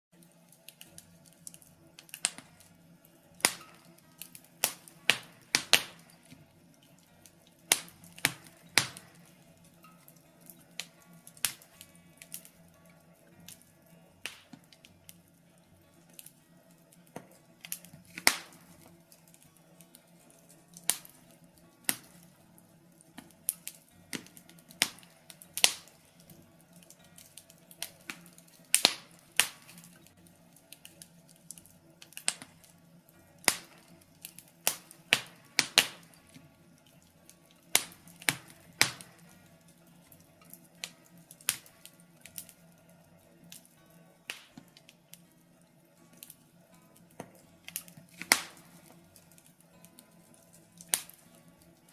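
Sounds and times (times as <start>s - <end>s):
logs crackling in fireplace: 0.1s - 51.9s.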